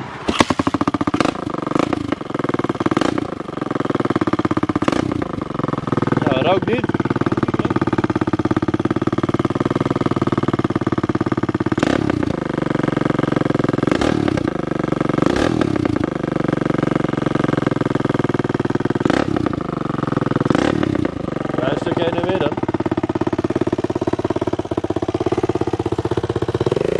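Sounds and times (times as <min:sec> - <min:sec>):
motorbike engine running: 0:00.0 - 0:26.9.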